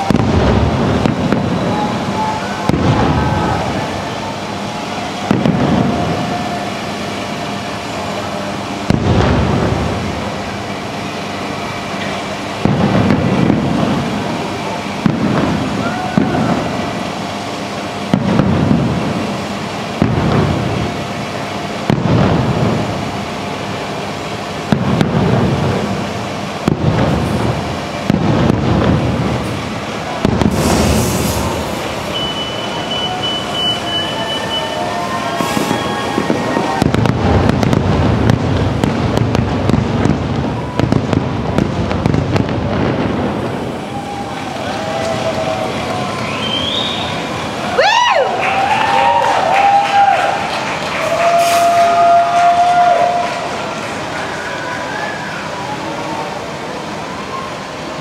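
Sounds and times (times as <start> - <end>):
fireworks booming: 0.0 - 54.9.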